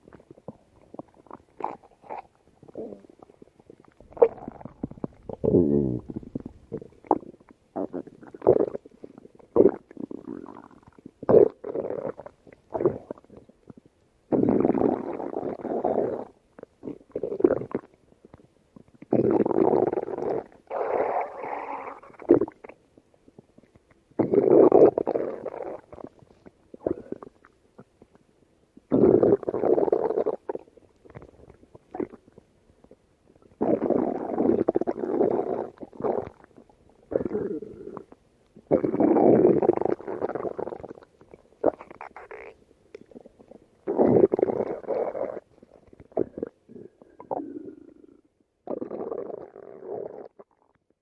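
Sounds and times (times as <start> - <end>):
stomach growling: 0.0 - 28.2, 28.8 - 51.0.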